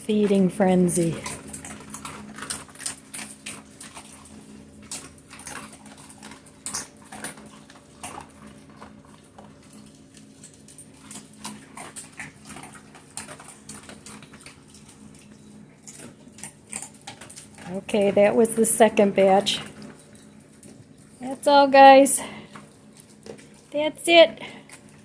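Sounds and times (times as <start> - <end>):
dogs crunching dry pasta: 0.0 - 25.0.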